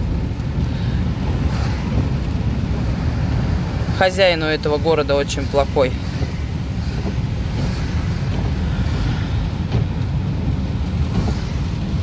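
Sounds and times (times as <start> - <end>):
car engine: 0.0 - 12.0
tyre noise on wet road: 0.0 - 12.0.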